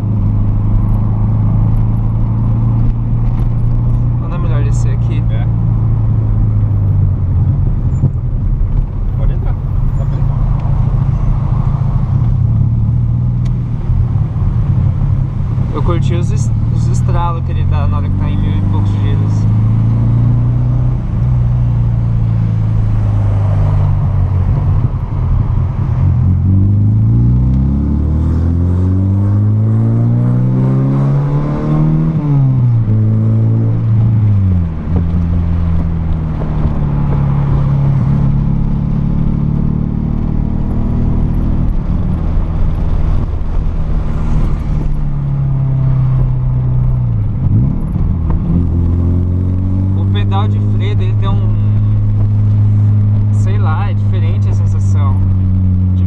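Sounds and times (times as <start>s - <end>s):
car engine and exhaust accelerating: 0.0s - 56.0s.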